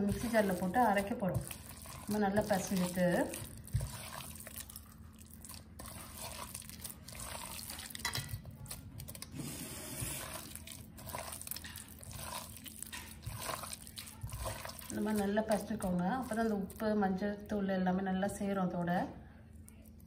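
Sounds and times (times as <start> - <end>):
hands squishing wet meat mix: 0.0 - 17.1.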